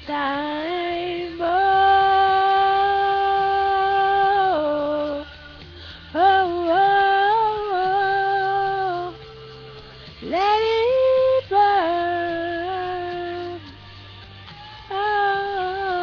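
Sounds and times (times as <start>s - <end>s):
woman singing wordless notes: 0.0s - 5.4s, 6.1s - 13.8s, 14.8s - 16.0s
faint backing track: 0.0s - 16.0s.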